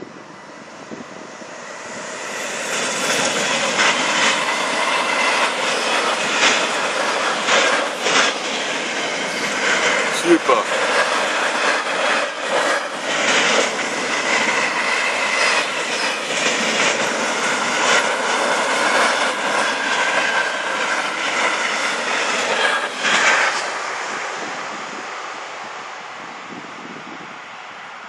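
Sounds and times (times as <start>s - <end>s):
freight train wheels rumbling on rails: 0.0s - 28.0s.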